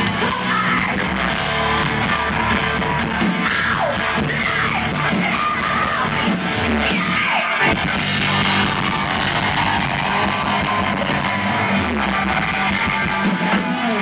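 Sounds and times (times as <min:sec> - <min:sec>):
electric guitar: 0:00.0 - 0:14.0
live rock band playing: 0:00.0 - 0:14.0.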